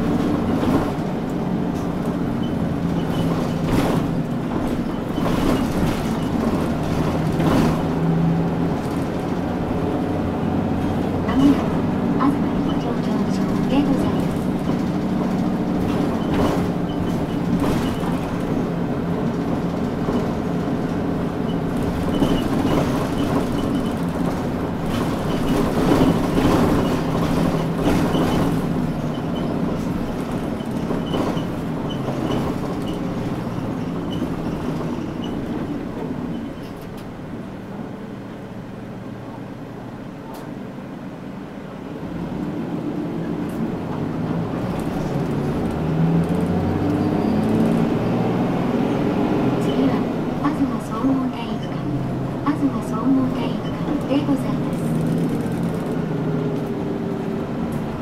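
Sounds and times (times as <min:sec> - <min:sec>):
diesel bus engine: 0:00.0 - 0:58.0
road noise: 0:00.0 - 0:58.0.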